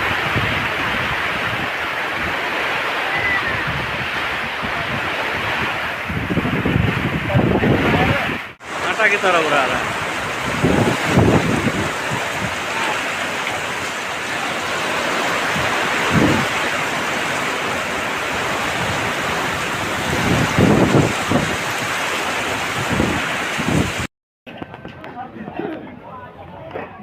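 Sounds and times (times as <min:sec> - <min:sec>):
heavy rain pouring: 0:00.0 - 0:24.1
wind buffeting microphone: 0:00.0 - 0:25.1.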